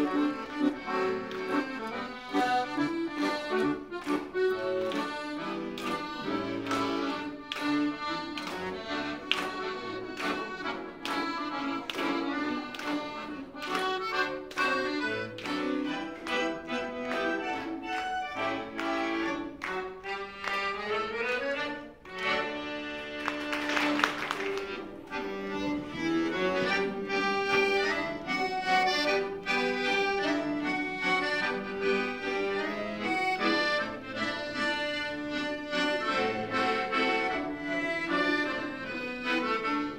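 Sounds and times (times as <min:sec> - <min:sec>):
accordion playing lively tune: 0:00.0 - 0:39.9.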